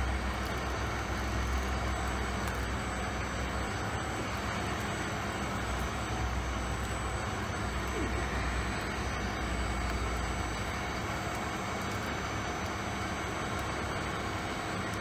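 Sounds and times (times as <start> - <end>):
faint steady tones: 0.0 - 15.0
machinery hum: 0.0 - 15.0.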